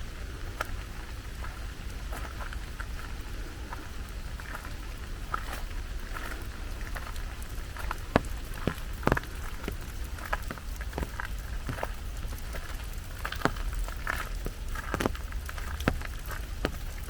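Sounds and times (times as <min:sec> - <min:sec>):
rain falling: 0:00.0 - 0:17.0
steady low rumble: 0:00.0 - 0:17.0.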